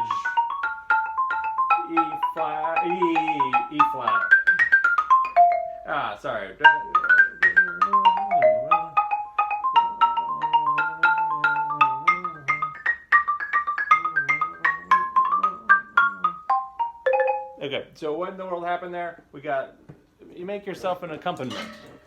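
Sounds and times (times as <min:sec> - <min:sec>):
xylophone ragtime passage: 0:00.0 - 0:18.0.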